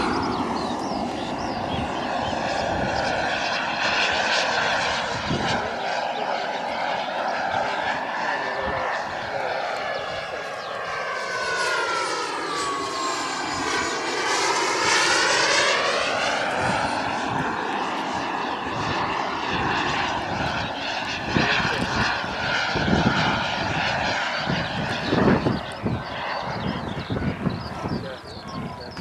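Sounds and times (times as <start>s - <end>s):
model jet turbine whining: 0.0s - 29.0s.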